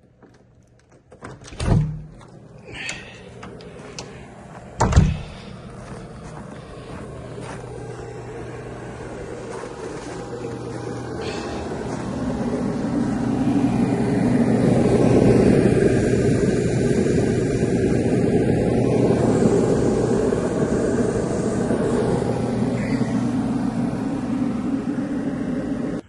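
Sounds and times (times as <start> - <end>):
heat pump fan blowing: 0.0 - 26.0
steady low hum: 0.0 - 26.0.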